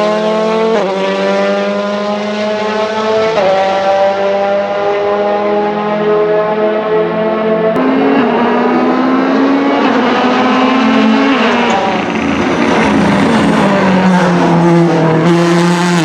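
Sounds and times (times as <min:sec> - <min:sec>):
rally car engine running hard: 0:00.0 - 0:16.0.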